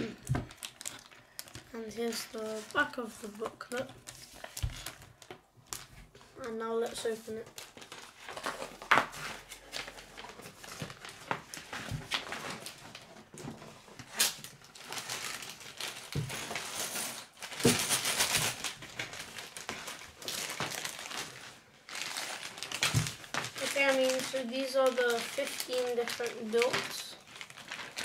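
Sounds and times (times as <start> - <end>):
paper rustling and crackling: 0.0 - 28.0
plastic bag crinkling: 0.0 - 28.0.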